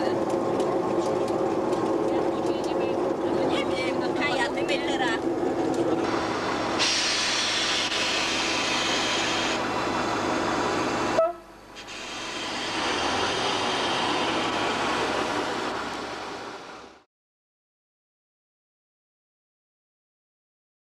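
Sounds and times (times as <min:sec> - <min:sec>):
train rolling: 0:00.0 - 0:17.1.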